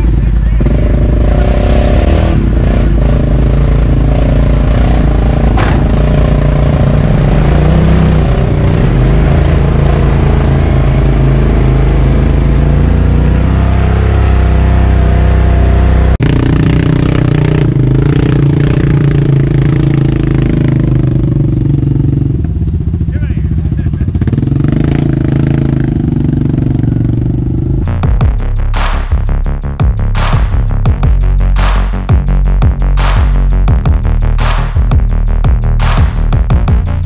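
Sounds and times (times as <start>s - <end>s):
off-road vehicle engine revving: 0.0s - 37.0s.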